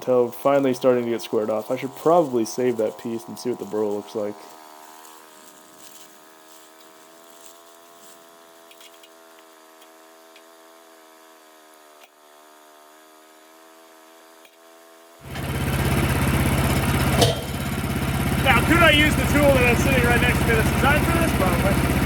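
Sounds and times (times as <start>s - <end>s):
small gasoline engine running: 0.0s - 22.0s.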